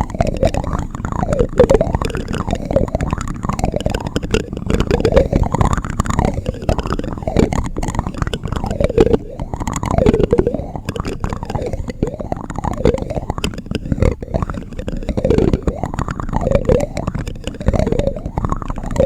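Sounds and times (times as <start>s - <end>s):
spoon rubbing and tapping microphone: 0.0s - 19.0s.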